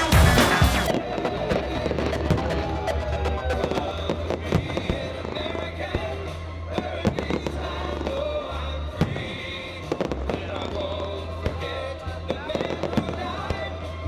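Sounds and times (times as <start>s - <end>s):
fireworks bangs and crackles: 0.0s - 14.0s
music with deep bass: 0.0s - 14.0s.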